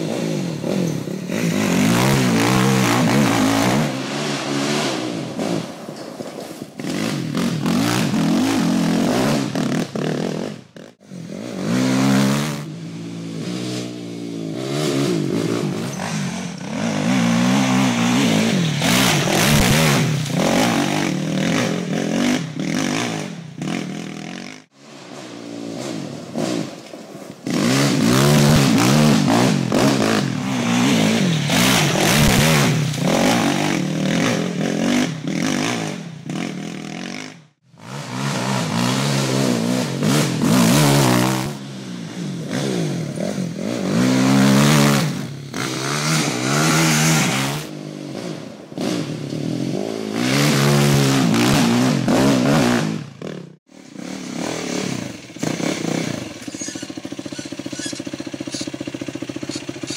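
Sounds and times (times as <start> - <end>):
quad engines revving: 0.0 - 6.0, 6.6 - 59.9.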